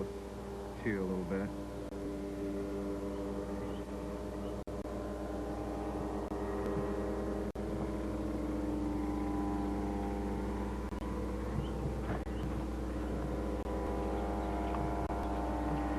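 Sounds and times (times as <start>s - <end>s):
ultralight aircraft engine droning: 0.0s - 15.9s.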